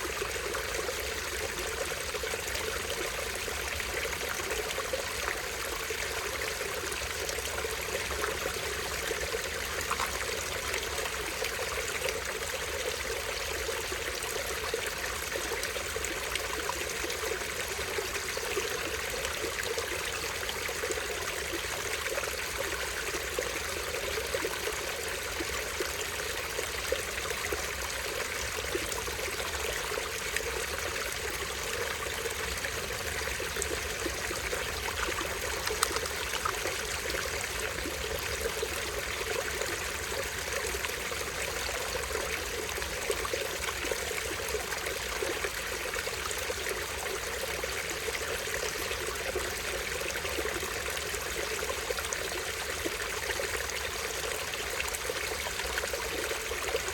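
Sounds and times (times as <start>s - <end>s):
stream water trickling and splashing: 0.0s - 56.9s.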